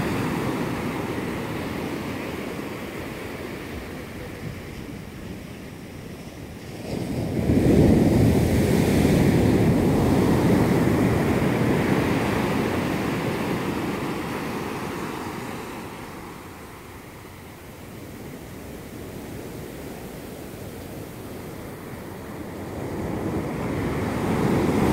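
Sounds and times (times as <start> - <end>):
wave breaking and washing up beach: 0.0 - 24.9.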